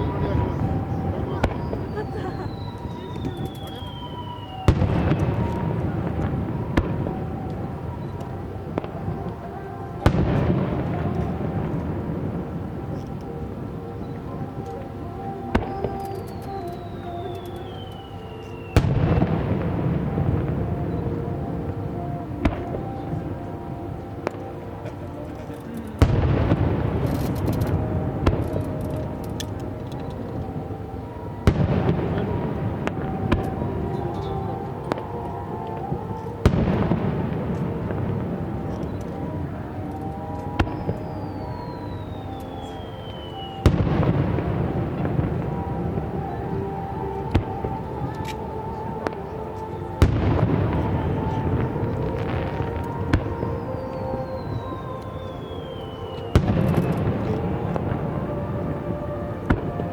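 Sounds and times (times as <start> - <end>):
firework bangs: 0.0 - 14.7, 15.5 - 59.9
crackling pops: 0.0 - 59.9
firework whistle: 0.0 - 59.9.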